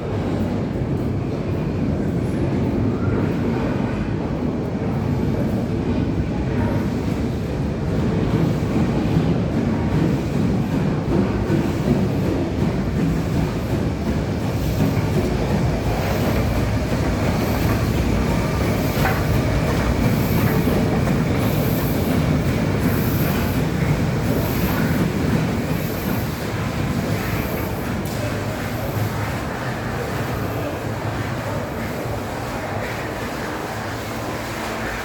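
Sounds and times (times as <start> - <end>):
steam locomotive rumbling: 0.0 - 35.0.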